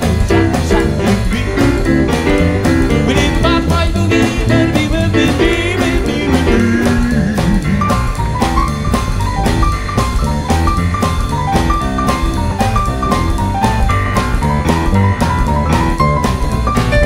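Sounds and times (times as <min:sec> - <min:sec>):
swing band playing: 0:00.0 - 0:17.0.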